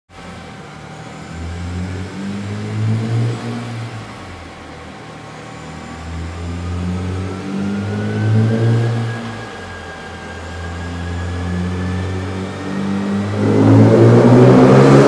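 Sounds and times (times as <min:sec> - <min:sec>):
car engine revving on dyno: 0:00.1 - 0:15.0
faint whine rising in pitch: 0:00.2 - 0:15.0.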